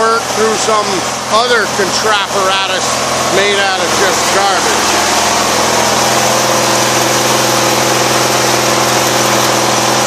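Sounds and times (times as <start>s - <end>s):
mower engine running: 0.0s - 10.0s.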